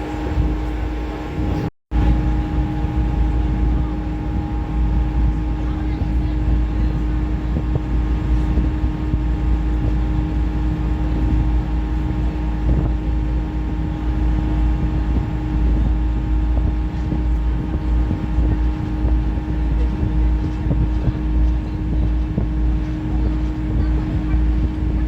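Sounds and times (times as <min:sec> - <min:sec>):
ferry engines droning: 0:00.0 - 0:25.0
wind rumble on microphone: 0:00.0 - 0:25.0.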